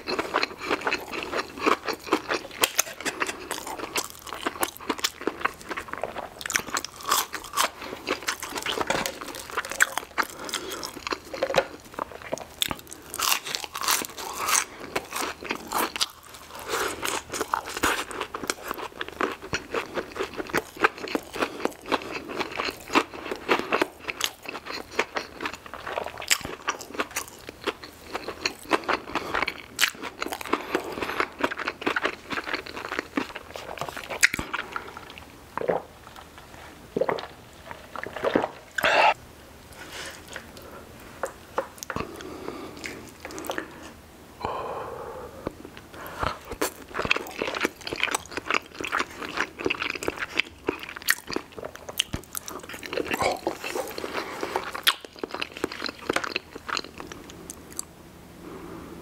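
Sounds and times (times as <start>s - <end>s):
chewing crunchy fried food: 0.0s - 39.2s, 39.8s - 44.0s, 46.0s - 57.9s.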